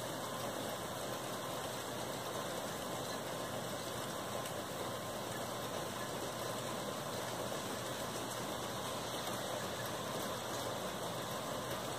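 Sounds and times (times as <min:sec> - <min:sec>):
steady rain hiss: 0:00.0 - 0:11.9.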